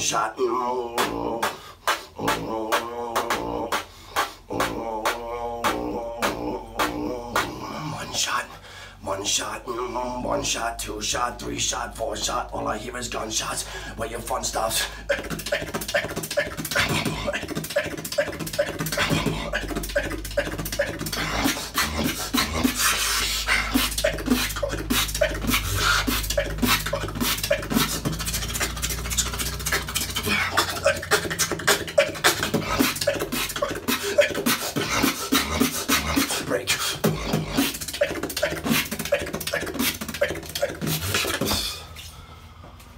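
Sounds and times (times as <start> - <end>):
beatboxing: 0.0 - 42.1
low bass hum: 4.4 - 42.9.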